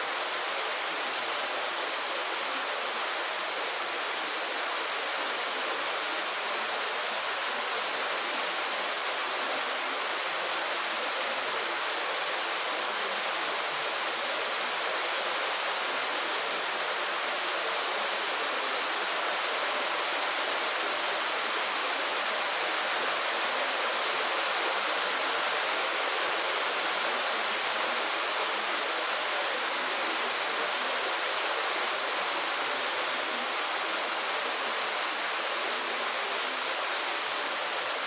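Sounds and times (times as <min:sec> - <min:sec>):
heavy rain downpour: 0:00.0 - 0:38.0.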